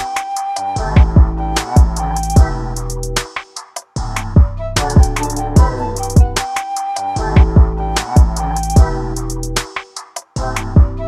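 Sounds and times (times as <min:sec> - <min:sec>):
drum-machine beat: 0:00.0 - 0:11.0.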